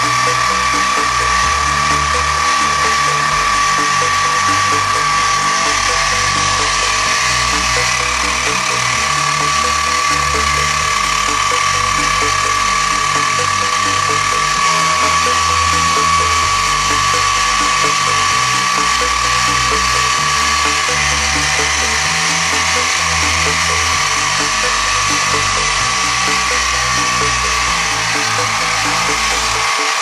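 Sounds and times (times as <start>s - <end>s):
milling machine spindle whine: 0.0s - 30.0s.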